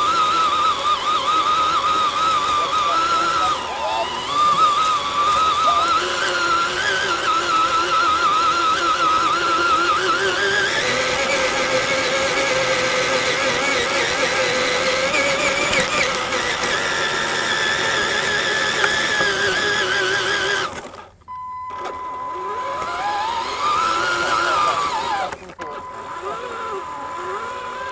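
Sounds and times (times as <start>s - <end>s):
electric motors whining: 0.0s - 27.9s.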